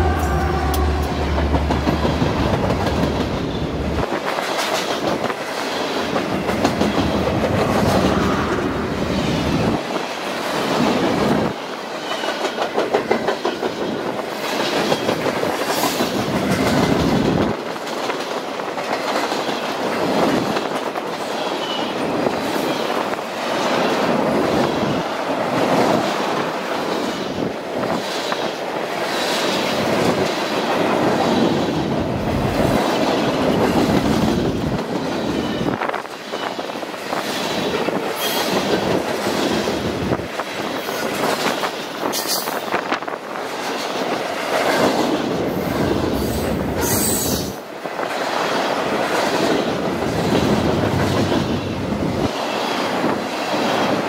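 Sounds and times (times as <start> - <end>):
train wheels clacking over rails: 0.0 - 54.0.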